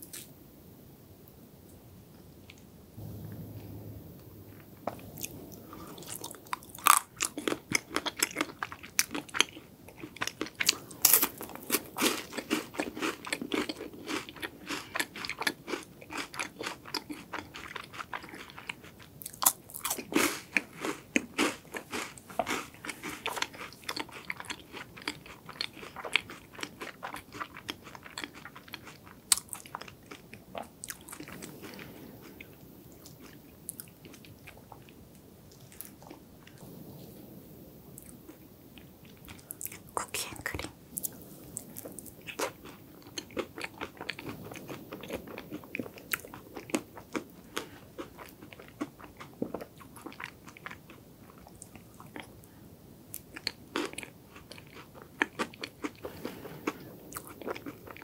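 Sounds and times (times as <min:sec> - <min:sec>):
crunching and chewing wafer: 0:06.0 - 0:36.6, 0:39.1 - 0:52.3, 0:53.1 - 0:58.0.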